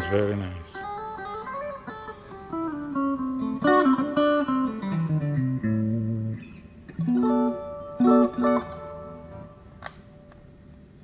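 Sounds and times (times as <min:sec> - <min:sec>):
electric guitar single picked notes: 0:00.0 - 0:10.8.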